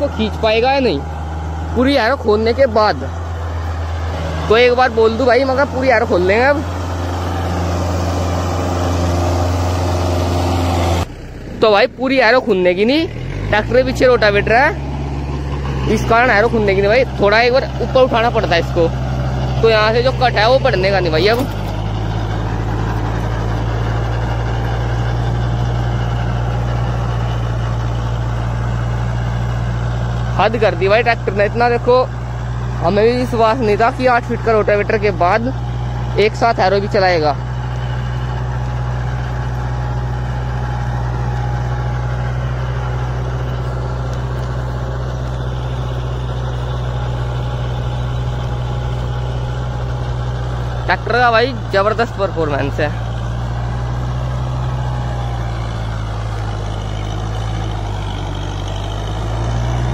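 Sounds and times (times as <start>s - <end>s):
tractor diesel engine humming: 0.0s - 59.9s.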